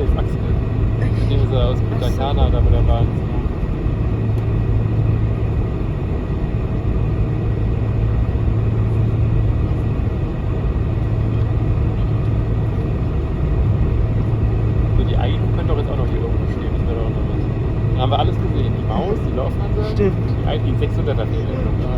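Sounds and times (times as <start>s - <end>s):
airplane cabin engine rumble: 0.0s - 21.9s.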